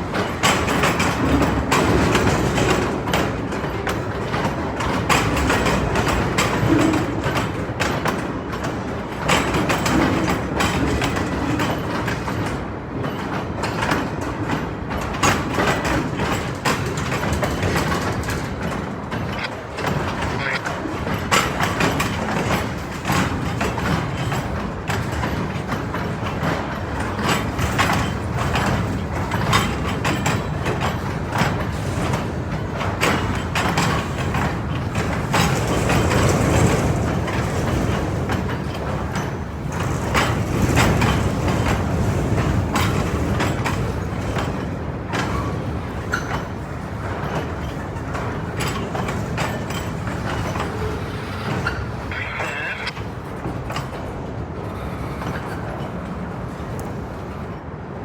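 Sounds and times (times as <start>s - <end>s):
freight train wheels rumbling: 0.0s - 58.0s
sharp clicks and clanks: 0.1s - 54.1s.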